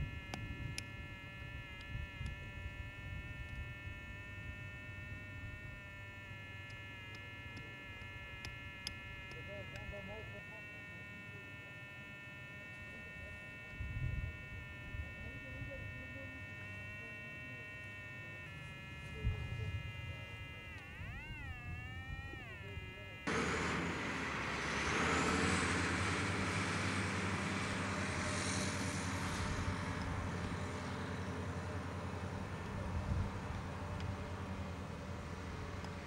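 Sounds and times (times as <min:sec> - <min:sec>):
buzzing tone with overtones: 0:00.0 - 0:36.0
low hum: 0:00.0 - 0:36.0.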